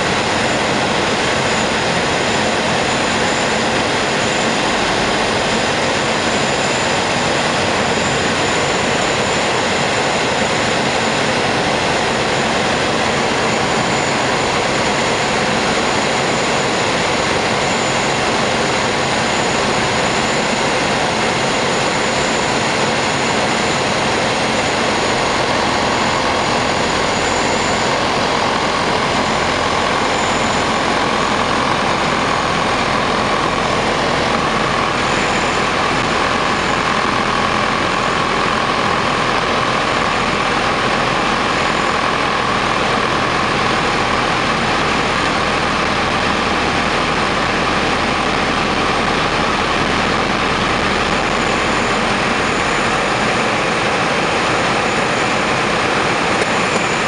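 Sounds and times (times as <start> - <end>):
propeller plane engine drone in cockpit: 0.0 - 57.0.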